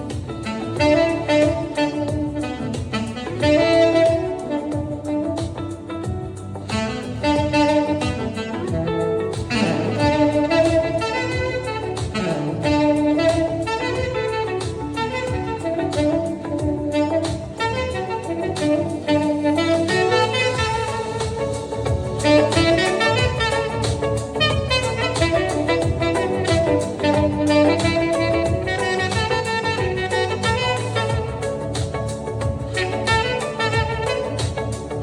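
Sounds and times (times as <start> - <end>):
backing music with steady beat: 0.0 - 35.0
saxophone playing jazzy melody: 0.0 - 35.0.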